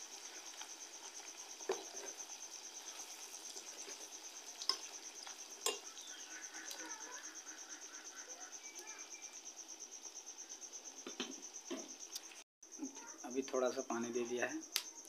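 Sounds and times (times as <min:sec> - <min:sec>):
soft sizzle from pan: 0:00.0 - 0:12.4
cricket trilling: 0:00.0 - 0:15.0.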